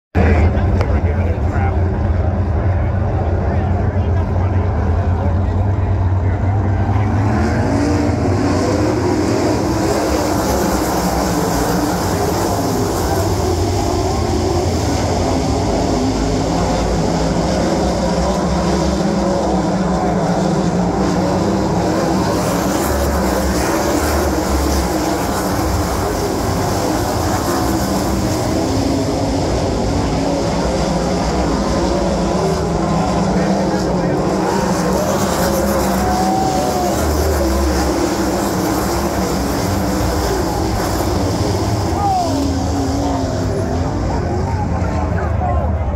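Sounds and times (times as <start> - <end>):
people's voices: 0.2 - 45.9
racing car engines at high revs: 0.2 - 45.9.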